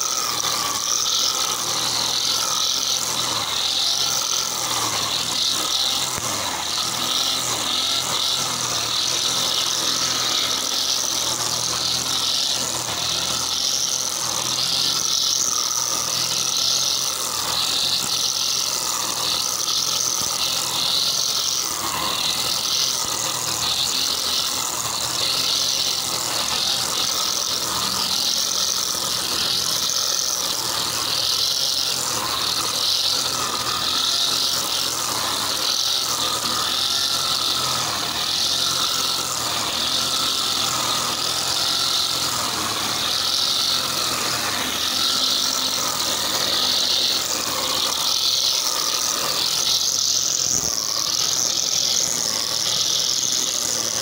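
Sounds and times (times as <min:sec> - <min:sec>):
brush cutter cutting grass: 0:00.0 - 0:54.0.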